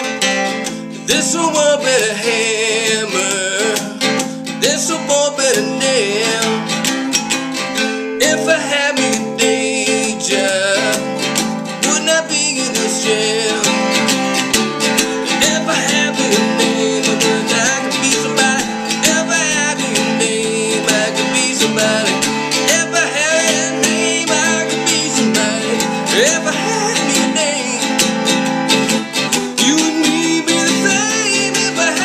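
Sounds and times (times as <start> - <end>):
man singing: 0.0 - 32.0
strummed acoustic guitar: 0.0 - 32.0.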